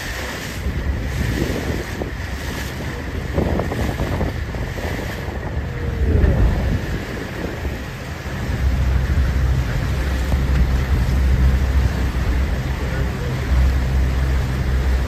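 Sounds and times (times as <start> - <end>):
boat low rumble: 0.0 - 15.0
wind buffeting microphone: 0.0 - 15.0.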